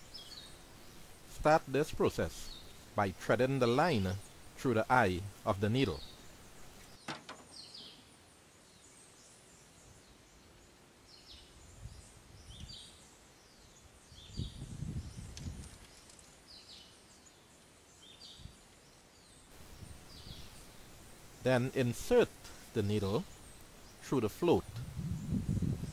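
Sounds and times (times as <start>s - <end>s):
bird chirping: 0.0s - 1.2s, 1.8s - 25.9s.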